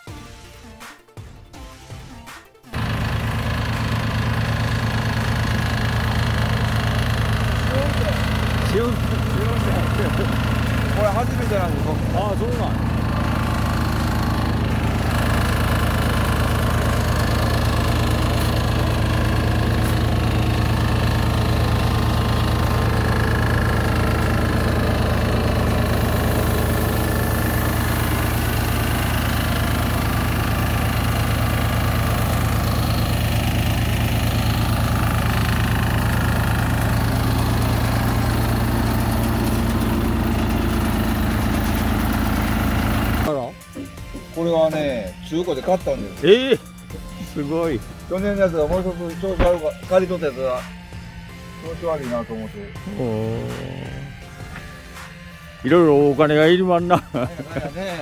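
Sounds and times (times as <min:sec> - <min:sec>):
harvester engine running: 0:02.7 - 0:58.0.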